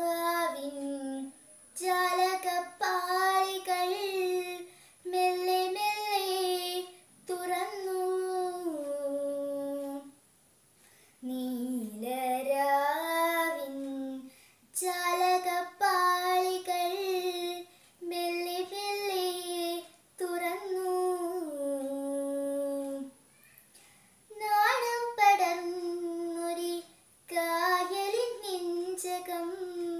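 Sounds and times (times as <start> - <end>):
girl singing unaccompanied: 0.0 - 10.3, 11.2 - 23.3, 24.2 - 29.9.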